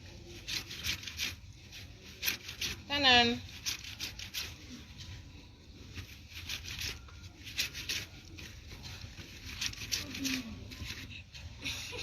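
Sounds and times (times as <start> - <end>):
wet cloth being scrubbed: 0.0 - 11.1.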